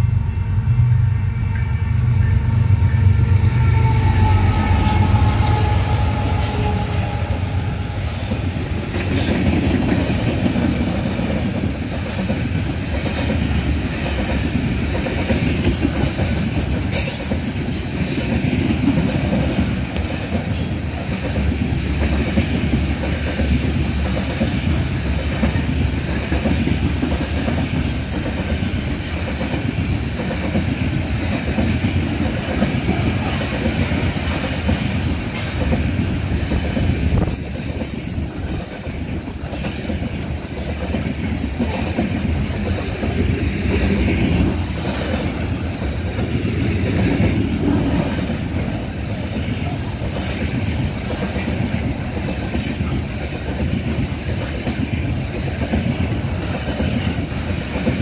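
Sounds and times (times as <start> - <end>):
diesel locomotive engine drone: 0.0 - 58.0
train cars rumbling past: 0.0 - 58.0
wheels clicking over rail joints: 6.6 - 58.0.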